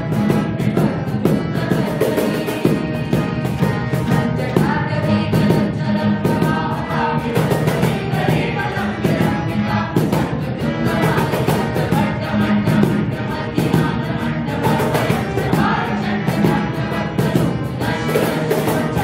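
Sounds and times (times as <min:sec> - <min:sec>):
harmonium: 0:00.0 - 0:19.0
strummed acoustic guitar: 0:00.0 - 0:19.0
young voices singing together: 0:00.0 - 0:19.0.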